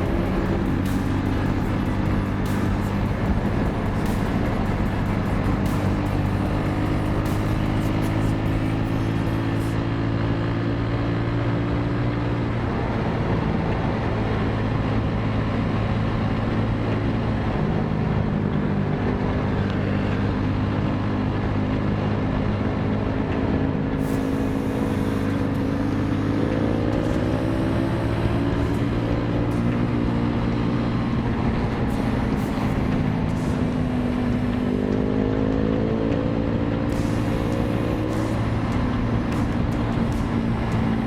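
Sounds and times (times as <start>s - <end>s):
motorcycle engine running: 0.0s - 15.2s, 16.0s - 41.0s.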